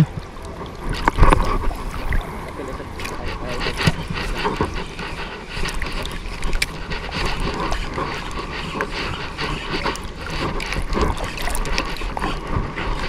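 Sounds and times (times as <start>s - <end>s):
sea water lapping and splashing: 0.0s - 13.0s
wind noise on microphone: 0.0s - 13.0s.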